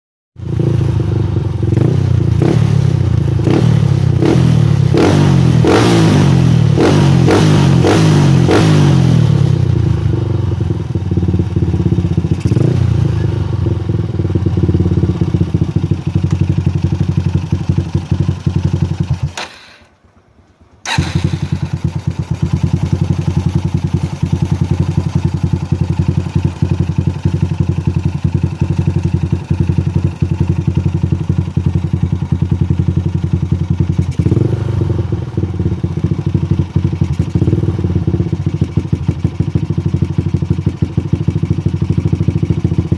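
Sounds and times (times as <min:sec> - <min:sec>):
motorcycle engine idling and revving: 0:00.4 - 0:42.9.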